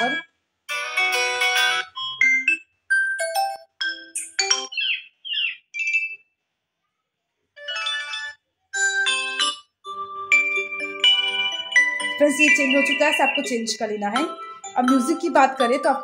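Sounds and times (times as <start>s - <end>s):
phone ringtone melodies: 0.0s - 6.2s, 7.6s - 16.0s.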